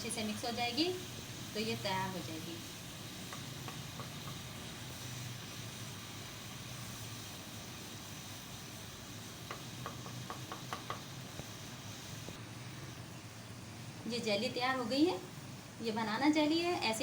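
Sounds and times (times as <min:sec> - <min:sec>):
pan hissing on stove: 0:00.0 - 0:17.0.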